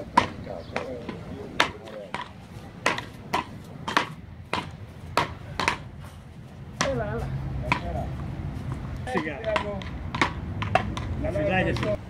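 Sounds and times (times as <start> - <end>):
paddles hitting a ball: 0.0 - 12.0.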